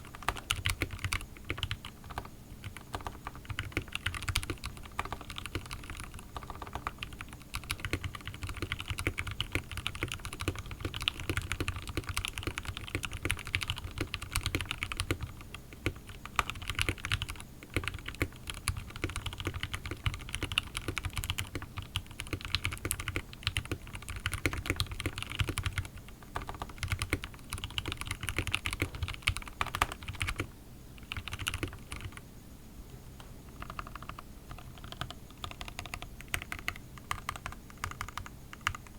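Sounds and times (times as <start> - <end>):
fast mechanical keyboard typing: 0.0 - 32.2, 33.6 - 38.9
steady low hum: 0.0 - 38.9.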